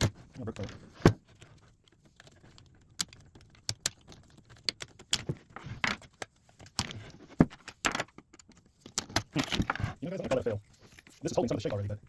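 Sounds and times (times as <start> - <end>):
sharp clicks and light knocks: 0.0 - 11.9.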